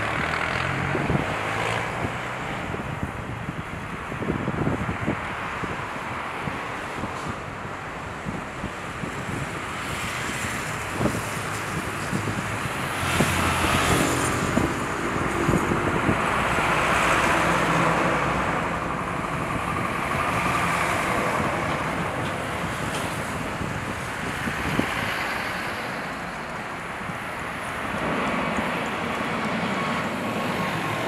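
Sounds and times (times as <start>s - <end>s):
distant jet engines roaring: 0.0s - 31.0s.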